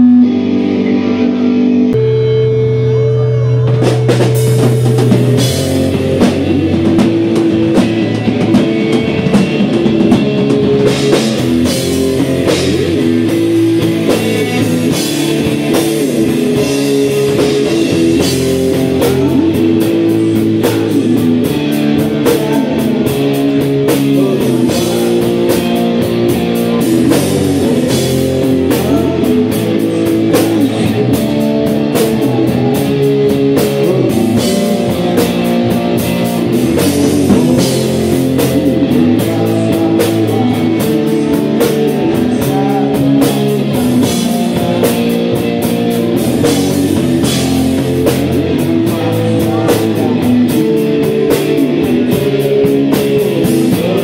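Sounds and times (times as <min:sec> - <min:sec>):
live rock band: 0:00.0 - 0:54.0.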